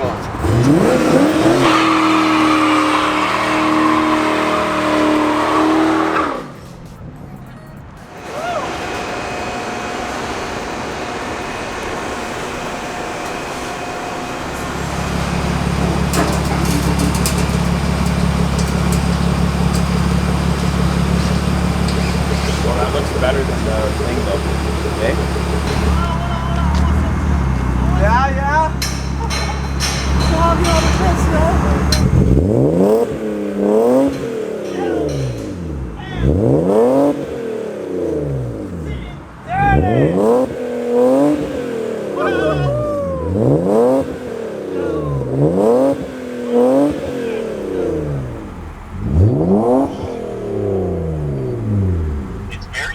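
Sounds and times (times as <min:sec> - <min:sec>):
car engine exhaust drone: 0:00.0 - 0:06.9, 0:08.1 - 0:52.9.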